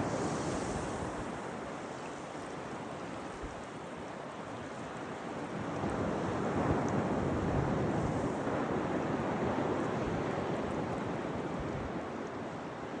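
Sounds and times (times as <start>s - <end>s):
surf washing onto beach: 0.0s - 12.5s
wind rumbling on microphone: 0.0s - 12.7s.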